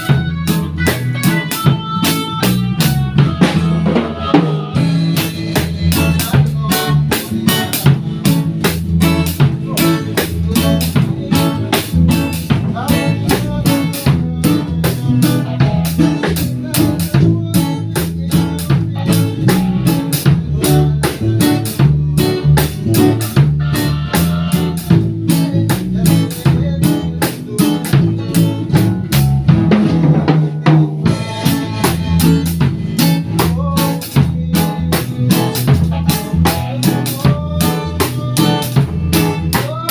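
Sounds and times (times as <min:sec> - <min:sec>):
band playing instrumental music: 0:00.0 - 0:39.9
drum kit beating steady rhythm: 0:00.0 - 0:39.9
heavy bass line: 0:00.0 - 0:39.9.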